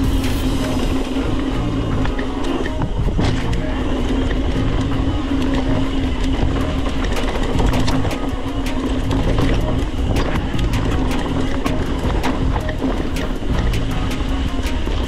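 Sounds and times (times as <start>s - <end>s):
mountain bike rattling on dirt trail: 0.0s - 15.0s.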